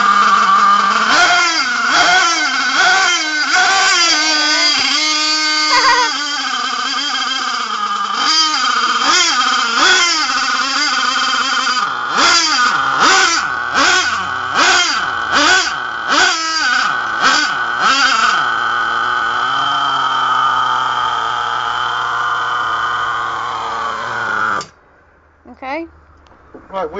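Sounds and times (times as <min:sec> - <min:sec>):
high-pitched model engine revving: 0:00.0 - 0:24.8.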